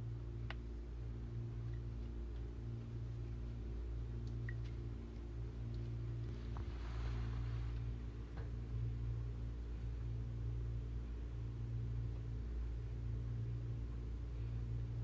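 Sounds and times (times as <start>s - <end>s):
low hum of level tones: 0.0s - 15.0s.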